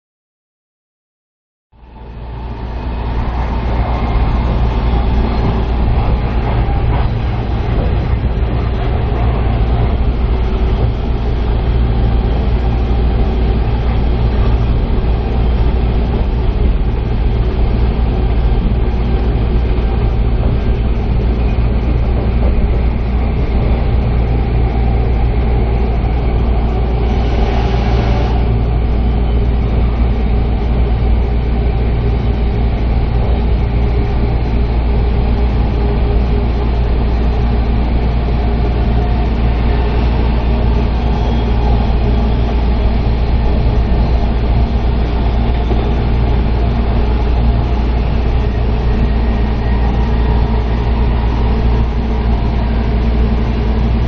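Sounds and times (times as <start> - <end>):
train running rumble: 1.8 - 54.0.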